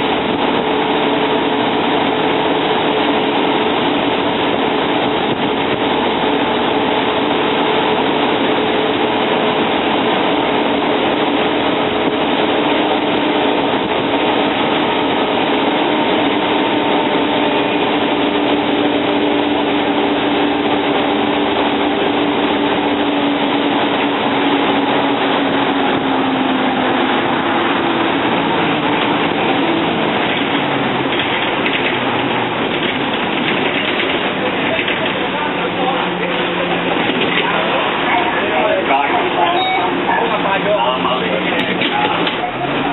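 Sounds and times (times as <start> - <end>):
bus diesel engine running: 0.0 - 42.9
whining tones: 0.0 - 42.9.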